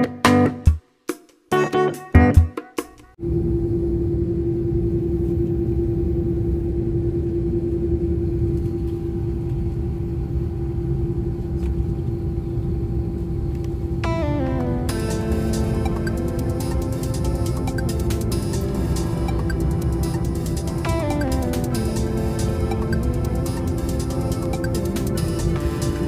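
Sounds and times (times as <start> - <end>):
constant hum: 3.2 - 26.0.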